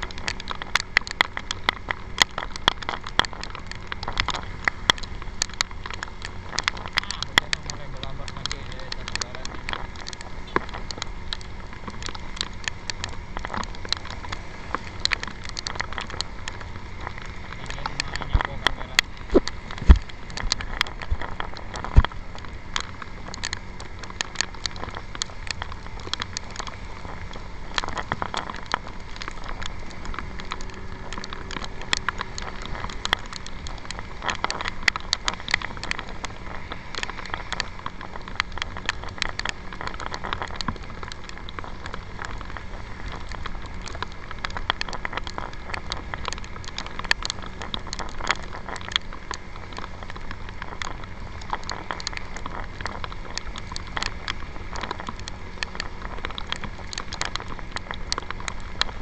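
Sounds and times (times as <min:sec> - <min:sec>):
motor scooter hum: 0:00.0 - 0:59.0
raindrops popping on camera: 0:00.0 - 0:59.0.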